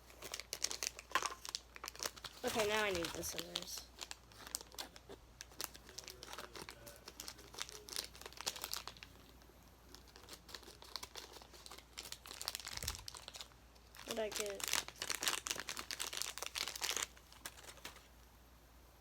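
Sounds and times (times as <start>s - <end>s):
plastic packaging crinkling: 0.0s - 18.2s.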